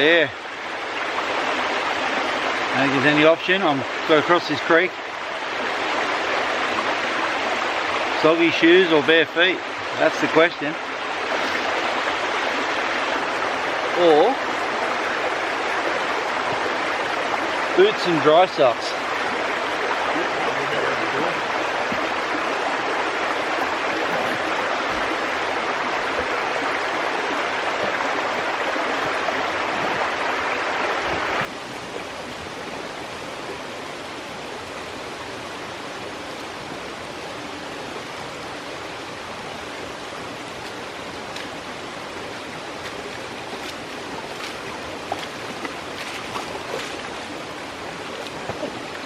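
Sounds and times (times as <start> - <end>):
creek water rushing over rocks: 0.0 - 49.0.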